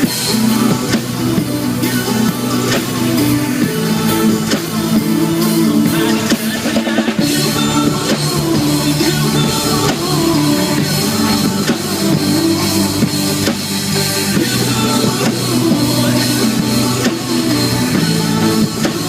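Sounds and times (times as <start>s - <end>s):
drum kit steady beat: 0.0s - 19.0s
held bass notes: 0.0s - 19.0s.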